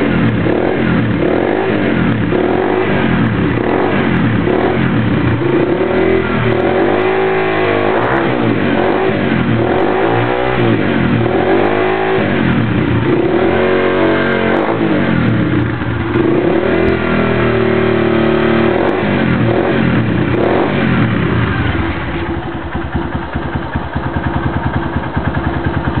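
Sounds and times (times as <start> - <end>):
motorcycle engine idling: 0.0 - 26.0
motorcycle engine revving: 0.0 - 26.0.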